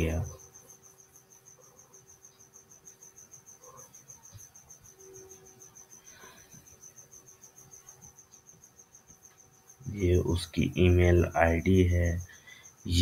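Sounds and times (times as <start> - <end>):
faint low hum: 0.0 - 13.0
insect chirping: 0.0 - 13.0.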